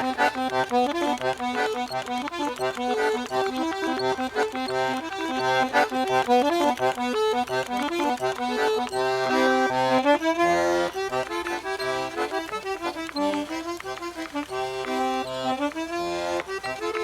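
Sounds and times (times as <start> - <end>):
accordion folk melody: 0.0 - 17.0.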